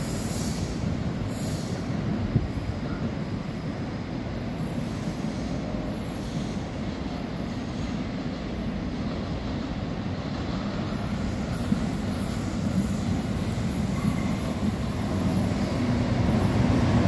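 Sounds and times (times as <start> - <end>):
train wheels running on rails: 0.0 - 17.0.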